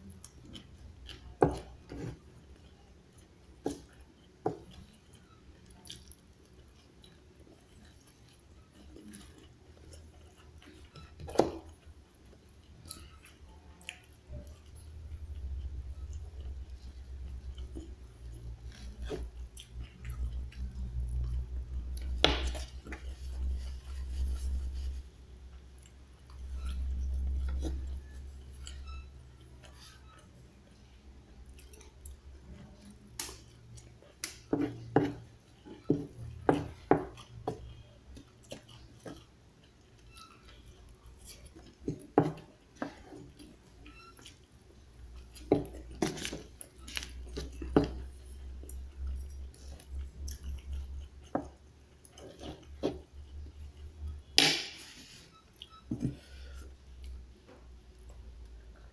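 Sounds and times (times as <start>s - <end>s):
chewing: 0.0s - 54.3s, 55.2s - 58.9s.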